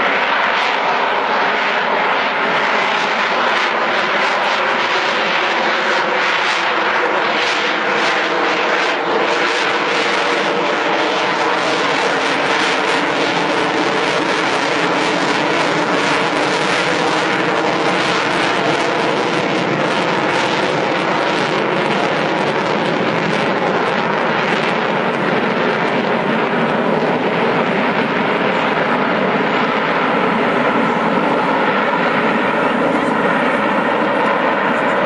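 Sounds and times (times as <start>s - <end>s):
jet flying overhead: 0.0s - 35.0s.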